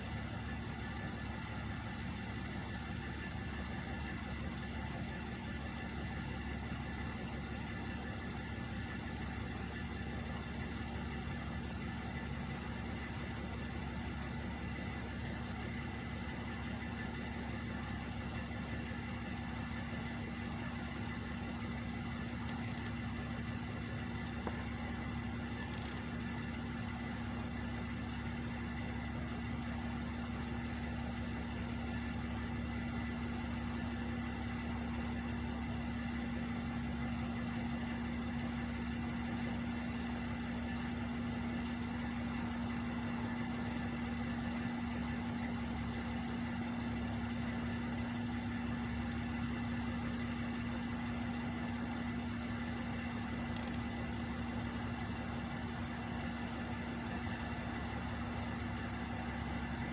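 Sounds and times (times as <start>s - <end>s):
truck engines idling: 0.0s - 59.9s.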